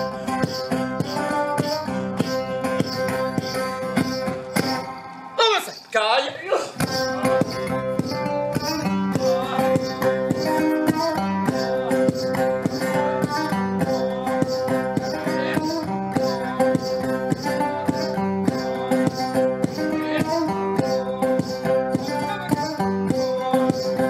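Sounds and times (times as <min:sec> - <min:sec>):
guitar with effects: 0:00.0 - 0:24.0.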